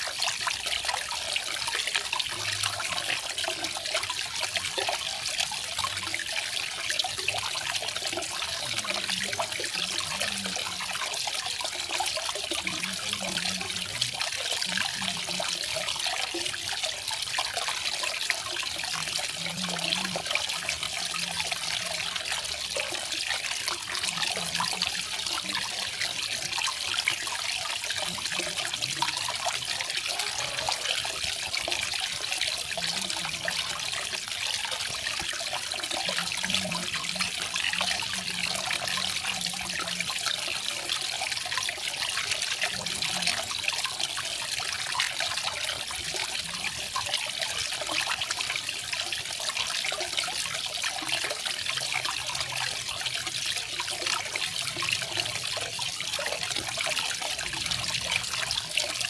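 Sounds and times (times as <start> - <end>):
water splashing and trickling: 0.0 - 59.0.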